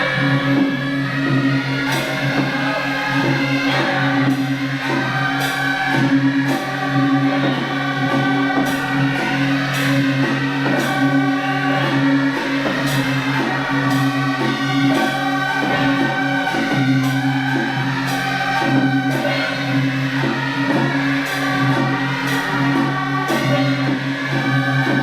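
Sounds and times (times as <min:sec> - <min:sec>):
music with held low notes: 0:00.0 - 0:25.0.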